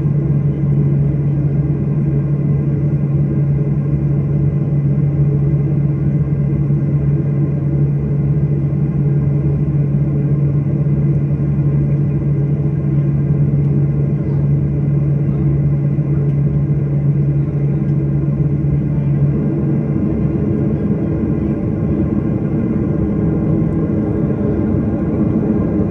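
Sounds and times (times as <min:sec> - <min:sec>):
airliner cabin drone: 0:00.0 - 0:25.9.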